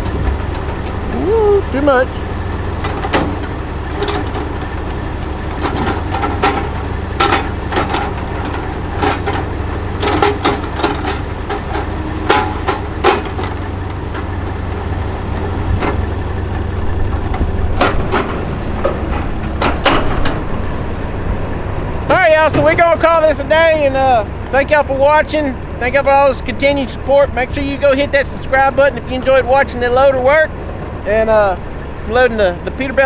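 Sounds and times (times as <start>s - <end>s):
logs knocking onto trailer: 0.0s - 31.1s
log loader engine running: 0.0s - 33.0s.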